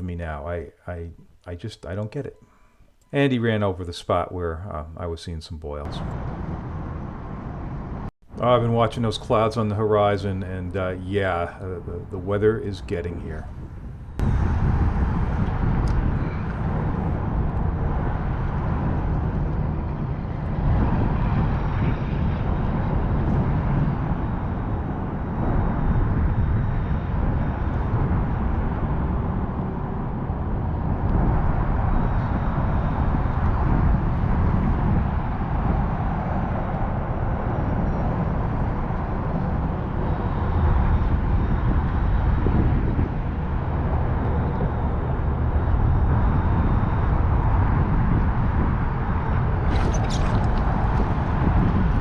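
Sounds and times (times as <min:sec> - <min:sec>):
wind buffeting microphone: 0:05.8 - 0:52.0.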